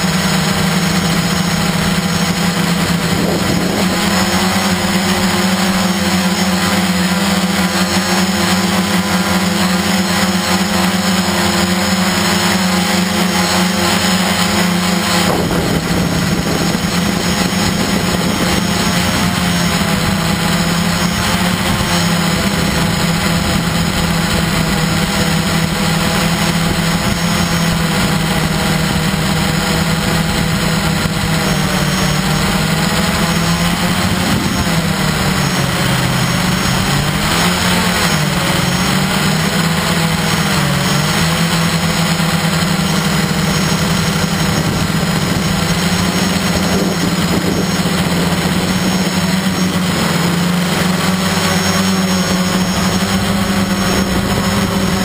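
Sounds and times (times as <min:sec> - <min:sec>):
aircraft motors droning: 0:00.0 - 0:55.0.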